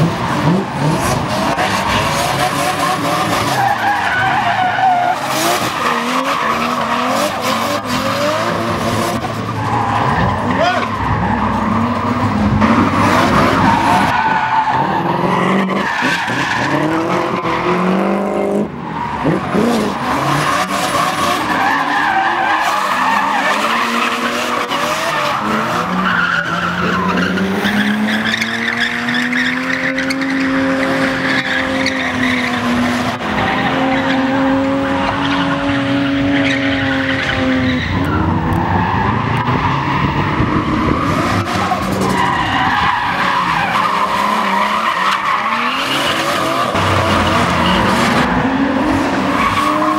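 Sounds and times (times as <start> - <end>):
car engines revving hard: 0.0 - 49.9.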